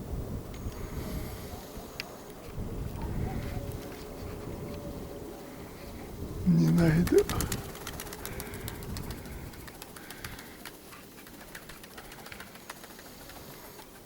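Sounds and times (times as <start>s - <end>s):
pigeons cooing: 0.7s - 14.0s.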